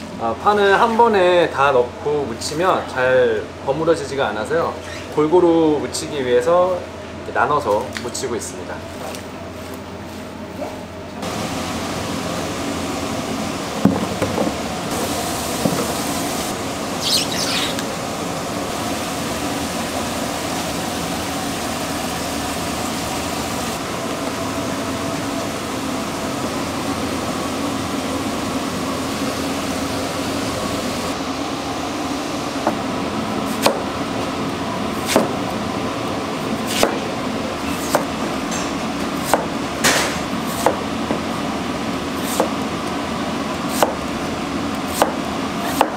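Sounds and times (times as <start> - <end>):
kitchen machinery humming: 0.0 - 45.9.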